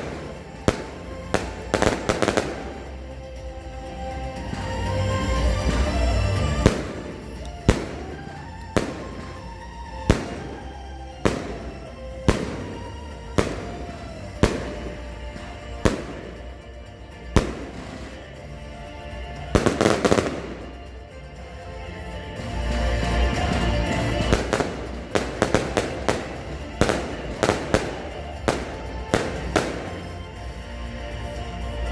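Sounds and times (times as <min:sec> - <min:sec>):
firework bangs: 0:00.0 - 0:21.4, 0:22.4 - 0:31.4
music: 0:00.0 - 0:31.9.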